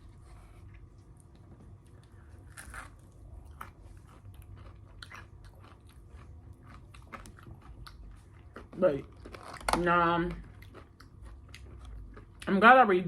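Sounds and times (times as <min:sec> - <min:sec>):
chewing food: 0:00.0 - 0:12.6.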